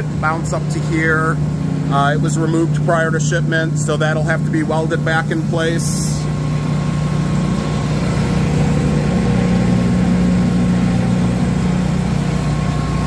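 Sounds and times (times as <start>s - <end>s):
blender motor low hum: 0.0s - 13.0s
faint high whine: 0.0s - 13.0s.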